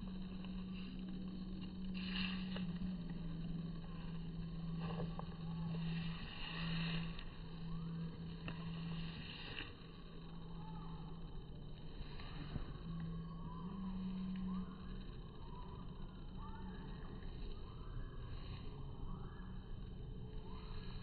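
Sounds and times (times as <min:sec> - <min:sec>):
faint outdoor background noise: 0:00.0 - 0:21.0
steady low hum: 0:00.0 - 0:21.0.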